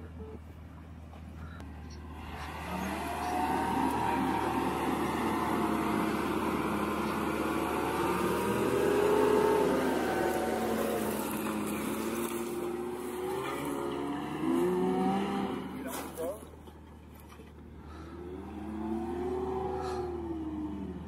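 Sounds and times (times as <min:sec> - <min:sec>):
car engine revving: 0:01.4 - 0:21.0
wheels spinning in sand: 0:02.2 - 0:21.0.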